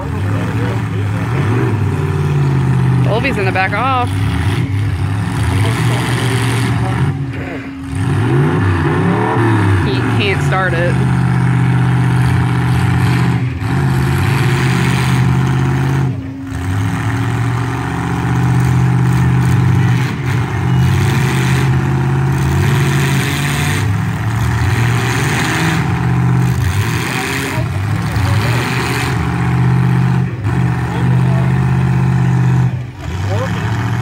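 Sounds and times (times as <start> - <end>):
truck engines revving: 0.0 - 34.0.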